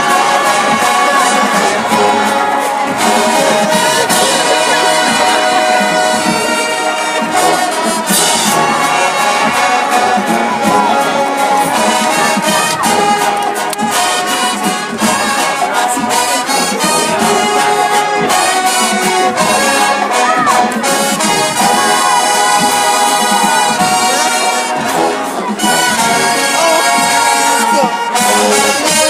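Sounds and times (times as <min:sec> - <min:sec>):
brass playing tune: 0:00.0 - 0:29.0
drum hits: 0:00.0 - 0:29.0.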